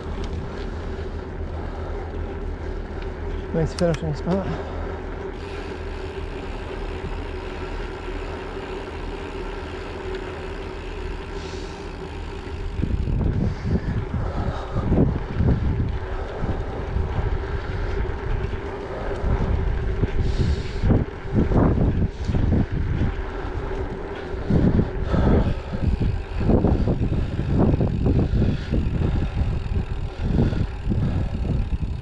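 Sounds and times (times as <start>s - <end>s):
bicycle tyre road noise: 0.0s - 32.0s
faint steady hum: 0.0s - 32.0s
wind buffeting microphone: 0.0s - 32.0s.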